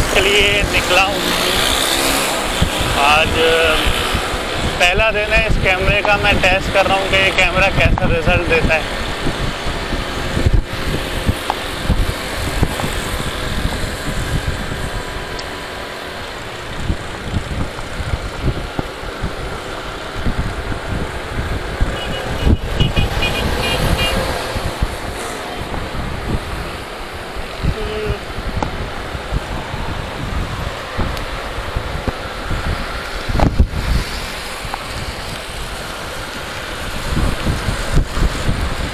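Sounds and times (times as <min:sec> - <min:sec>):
surrounding traffic: 0:00.0 - 0:38.9
wind buffeting microphone: 0:00.0 - 0:38.9.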